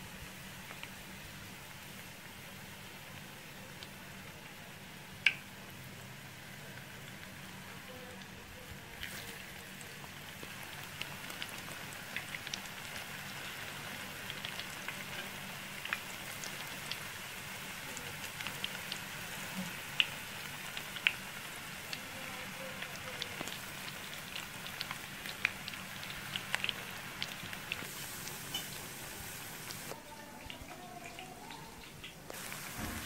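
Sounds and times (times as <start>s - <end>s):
batter deep-frying in hot oil: 0.0s - 33.0s.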